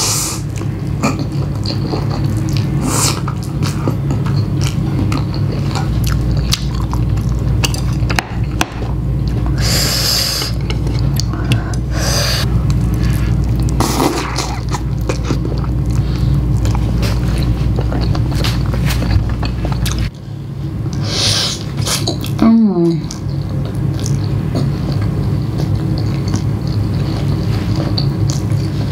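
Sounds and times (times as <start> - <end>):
steady low hum: 0.0 - 28.9
chewing with mouth smacks: 0.4 - 9.6, 10.4 - 11.9, 12.6 - 20.2, 21.6 - 22.4, 23.0 - 28.9.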